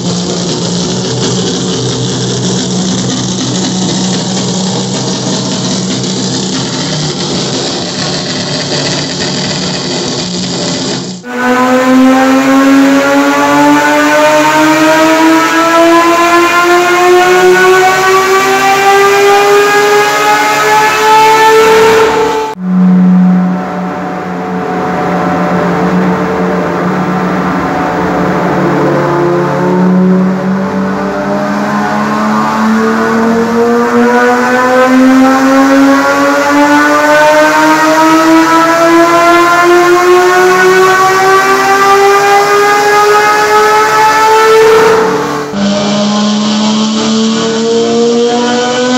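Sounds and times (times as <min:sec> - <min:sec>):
race car engine accelerating: 0:00.0 - 0:48.9.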